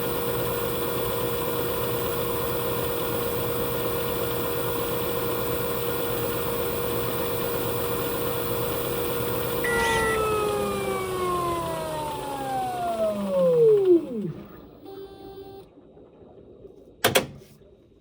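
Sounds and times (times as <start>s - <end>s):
washing machine humming and whining: 0.0s - 15.7s.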